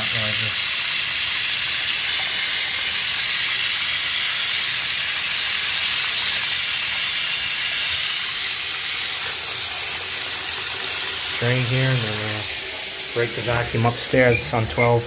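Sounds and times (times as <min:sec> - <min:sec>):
faucet water splashing into basin: 0:00.0 - 0:15.0.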